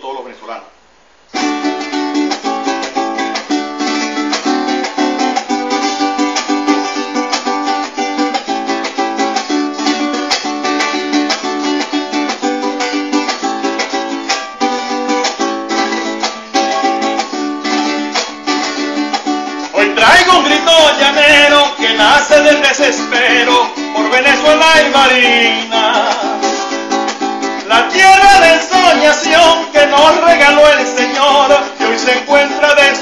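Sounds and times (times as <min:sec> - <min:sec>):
strummed string instrument chords: 0:01.4 - 0:33.0.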